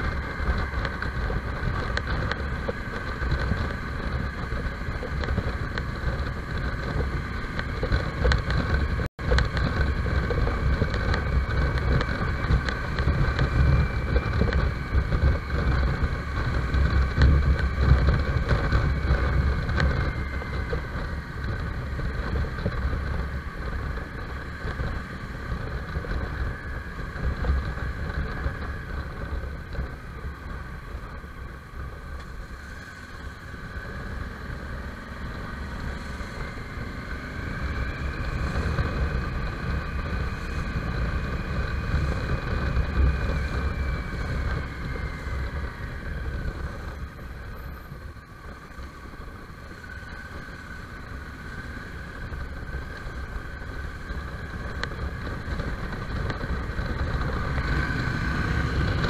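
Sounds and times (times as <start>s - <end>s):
motorcycle engine running: 0.0s - 59.0s
wind rumble on microphone: 0.0s - 59.0s.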